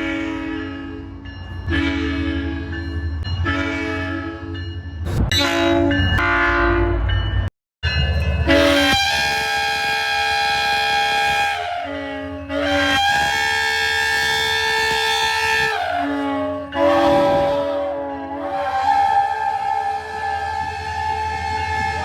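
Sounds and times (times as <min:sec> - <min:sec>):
train air horn blasts: 0:00.0 - 0:01.1, 0:01.7 - 0:02.6, 0:03.4 - 0:04.5, 0:05.4 - 0:07.1, 0:08.4 - 0:22.0
low train rumble: 0:00.0 - 0:22.0.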